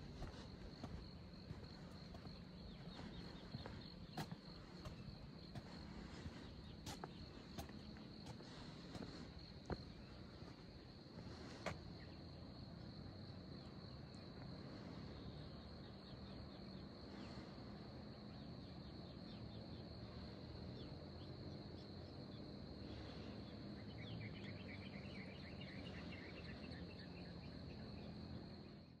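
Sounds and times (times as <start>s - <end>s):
faint low outdoor hum: 0.0s - 29.0s
insects trilling: 0.0s - 29.0s.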